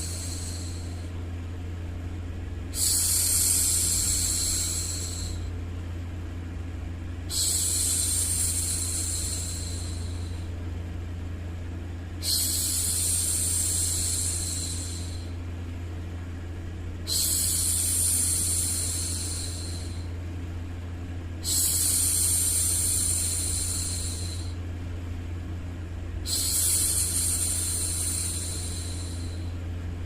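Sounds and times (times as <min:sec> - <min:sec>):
steady low background noise: 0:00.0 - 0:30.0.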